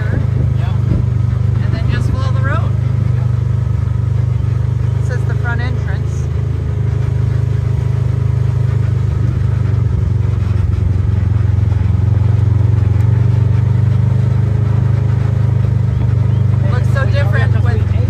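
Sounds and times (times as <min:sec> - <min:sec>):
utility vehicle engine droning: 0:00.0 - 0:18.0.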